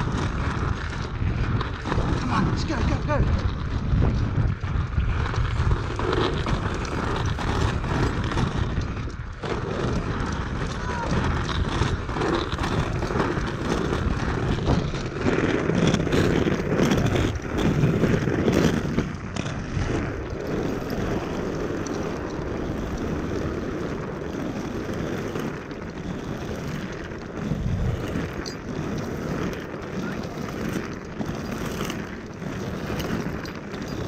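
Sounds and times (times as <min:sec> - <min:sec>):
skate wheels rolling on pavement: 0:00.0 - 0:34.0
wind buffeting microphone: 0:00.0 - 0:34.0.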